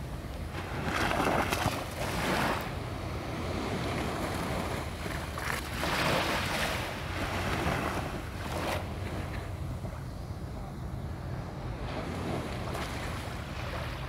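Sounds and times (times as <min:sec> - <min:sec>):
small waves washing in: 0:00.0 - 0:10.1, 0:11.2 - 0:14.0
wind rumbling on microphone: 0:00.0 - 0:14.0.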